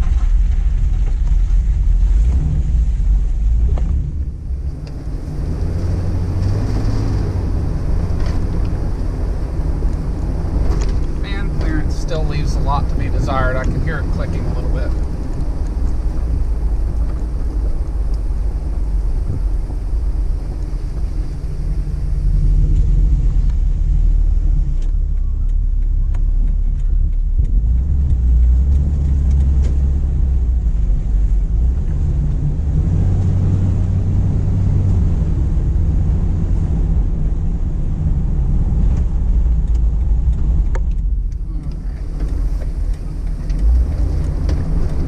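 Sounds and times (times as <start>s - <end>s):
car engine running in cabin: 0.0s - 45.0s
road noise: 0.0s - 45.0s.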